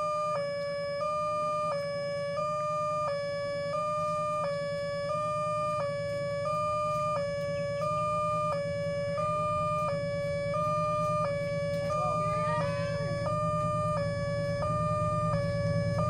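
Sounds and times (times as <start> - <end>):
low hum: 0.0 - 16.0
two-tone level crossing alarm: 0.0 - 16.0.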